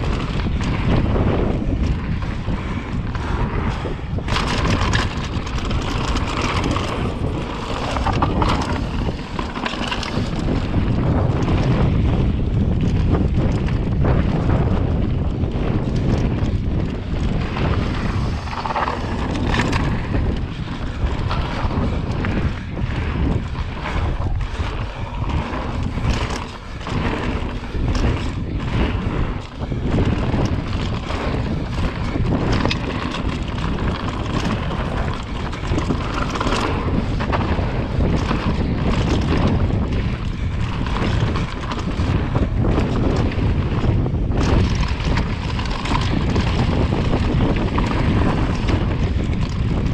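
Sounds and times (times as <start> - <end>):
bike clattering over bumps: 0.0 - 49.9
bike tyre noise: 0.0 - 49.9
wind rushing on microphone: 0.0 - 49.9.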